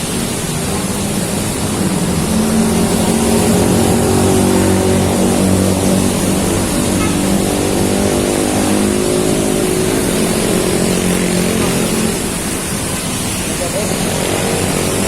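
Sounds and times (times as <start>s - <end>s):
heavy rain falling: 0.0s - 15.0s
vehicle engine humming: 0.0s - 15.0s.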